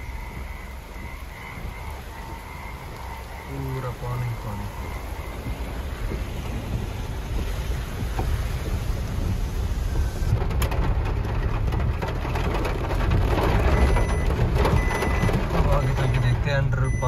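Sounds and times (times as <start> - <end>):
car driving low rumble: 0.0 - 17.0
rain falling on a car: 0.0 - 17.0
sharp ticks of raindrops: 0.0 - 17.0.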